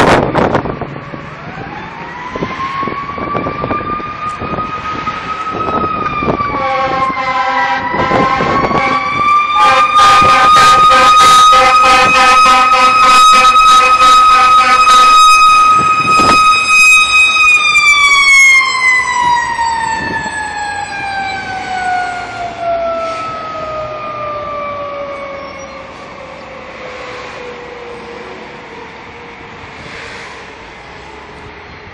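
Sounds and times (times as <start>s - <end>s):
fire engine siren wailing: 0.0s - 29.9s.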